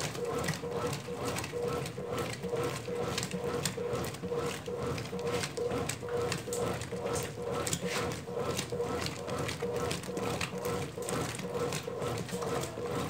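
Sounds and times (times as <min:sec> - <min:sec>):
washing machine agitating: 0:00.0 - 0:13.0.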